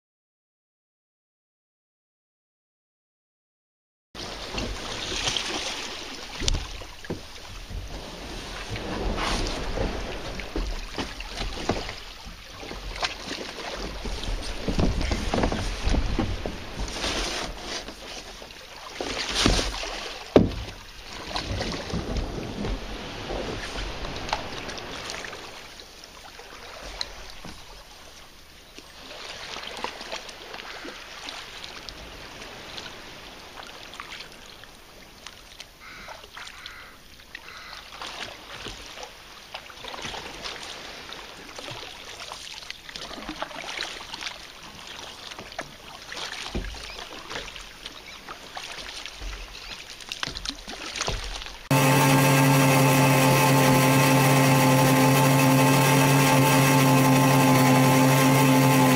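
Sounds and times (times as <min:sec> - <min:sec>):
water splashing and dripping: 0:04.2 - 0:27.8, 0:28.9 - 0:58.9
kayak paddle strokes: 0:04.2 - 0:34.4, 0:35.2 - 0:58.9
water washing along hull: 0:04.2 - 0:58.9.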